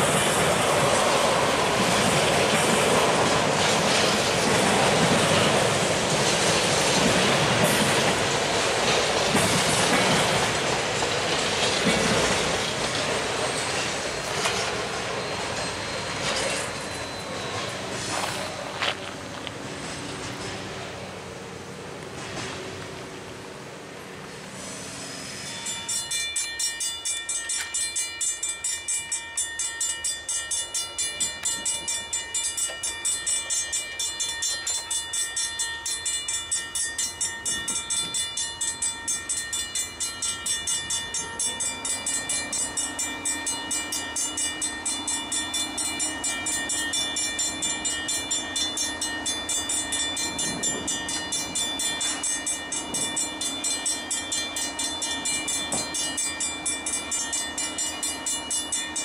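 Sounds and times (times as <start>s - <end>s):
crossing warning bell ringing: 0.0s - 21.2s, 24.7s - 59.0s.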